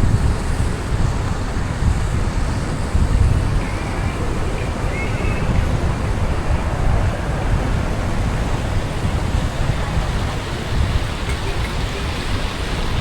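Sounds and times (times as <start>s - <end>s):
car road and wind noise: 0.0s - 13.0s.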